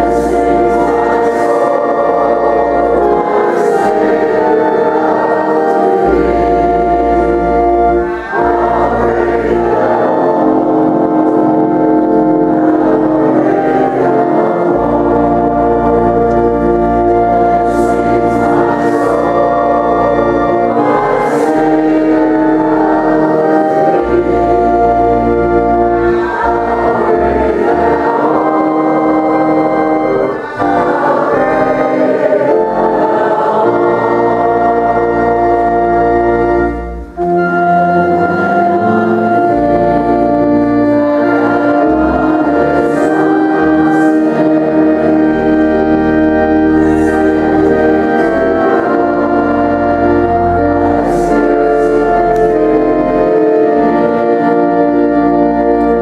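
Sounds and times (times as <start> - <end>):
choir singing a hymn with organ: 0.0 - 56.0.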